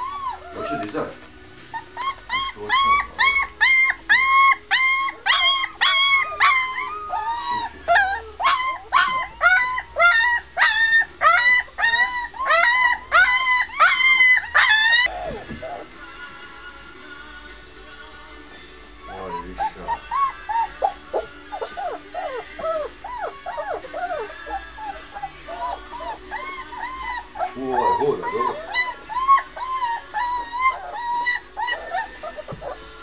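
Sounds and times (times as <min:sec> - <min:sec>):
puppy whining and crying: 0:00.0 - 0:16.2, 0:18.9 - 0:33.0.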